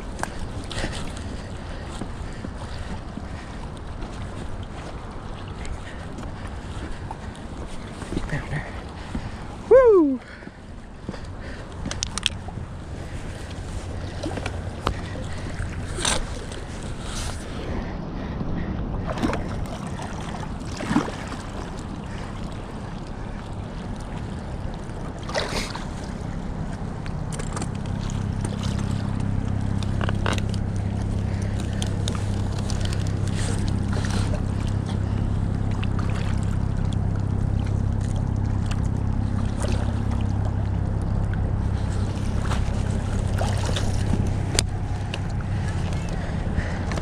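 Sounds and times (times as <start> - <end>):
boat motor humming: 0.0 - 47.0
wind and water noise: 0.0 - 47.0.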